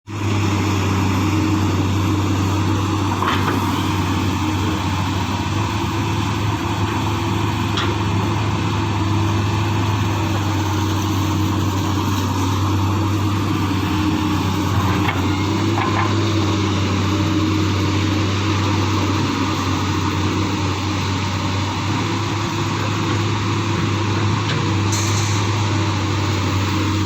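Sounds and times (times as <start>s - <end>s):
excavator diesel engine running: 0.1s - 27.0s.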